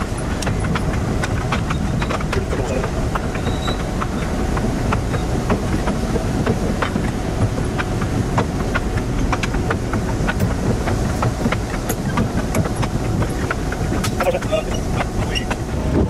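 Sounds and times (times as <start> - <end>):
train rumbling on track: 0.0 - 16.0
wheel clicks and clacks: 0.0 - 16.0.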